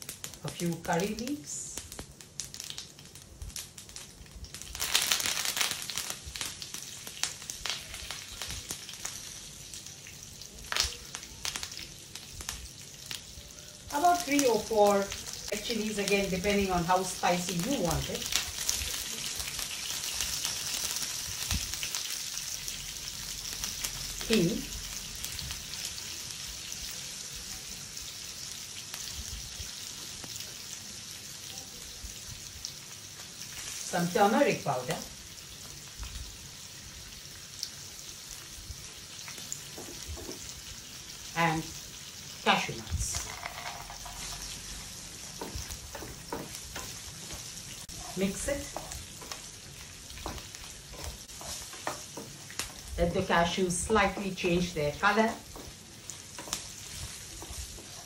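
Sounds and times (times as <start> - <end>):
leaves sizzling and popping in oil: 0.0 - 58.0.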